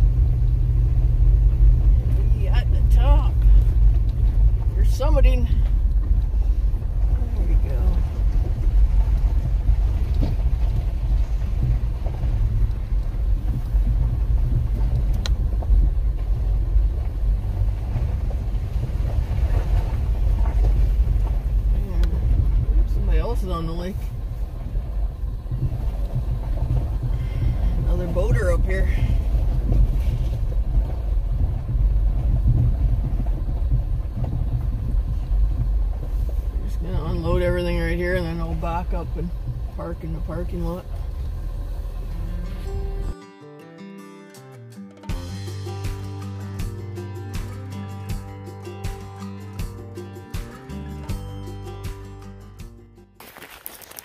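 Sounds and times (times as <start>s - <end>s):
truck rumbling on gravel road: 0.0s - 43.2s, 44.8s - 54.0s.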